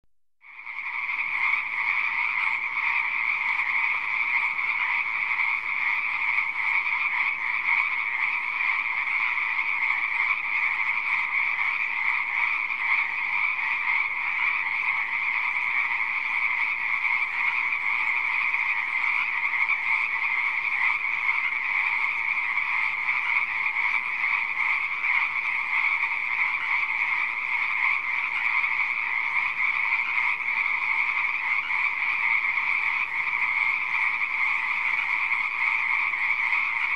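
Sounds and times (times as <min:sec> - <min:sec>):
chorus of frogs croaking: 0:00.4 - 0:36.9.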